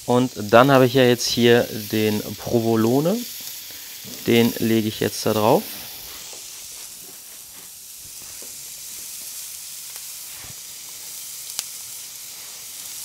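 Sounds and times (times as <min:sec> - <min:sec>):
patties sizzling on a griddle: 0:00.0 - 0:13.0.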